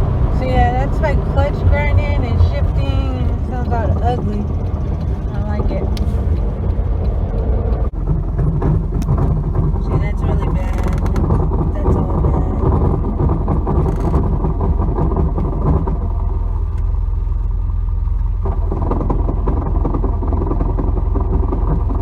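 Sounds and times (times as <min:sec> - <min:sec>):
clutch rattling and scraping: 0:00.0 - 0:16.9, 0:18.2 - 0:22.0
car engine running: 0:00.0 - 0:22.0.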